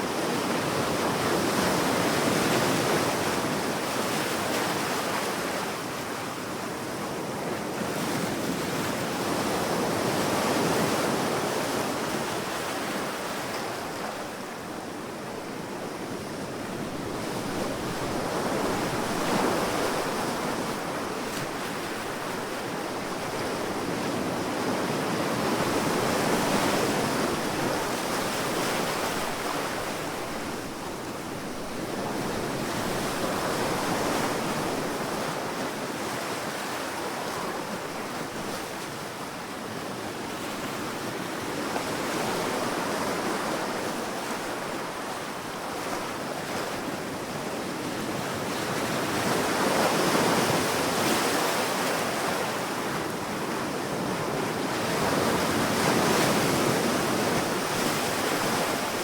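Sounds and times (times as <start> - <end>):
wind: 0.0 - 59.0
waves washing onto sand: 7.4 - 59.0.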